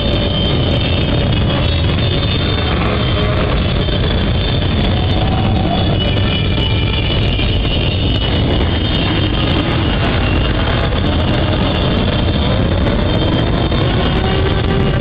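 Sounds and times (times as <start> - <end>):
scooters and motorcycles revving: 0.0 - 15.0.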